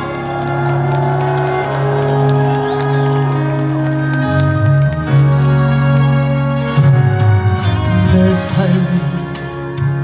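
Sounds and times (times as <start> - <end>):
band playing slow ballad: 0.0 - 10.0.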